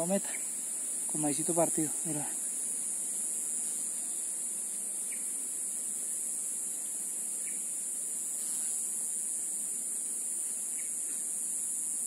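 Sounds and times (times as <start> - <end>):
faint chirps: 0.0 - 12.0
insect chorus drone: 0.0 - 12.0.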